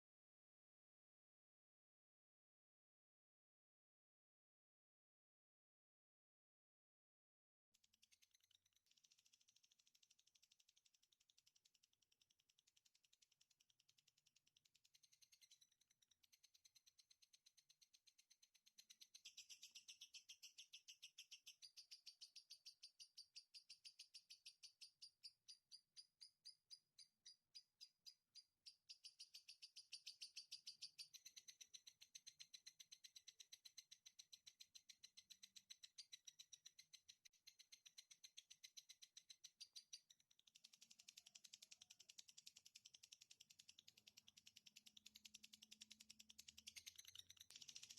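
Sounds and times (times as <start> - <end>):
faint songbird chattering: 7.8 - 47.9.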